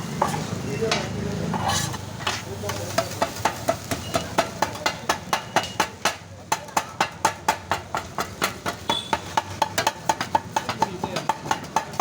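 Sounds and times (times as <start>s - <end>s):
metal blades clanging on griddle: 0.2s - 12.0s.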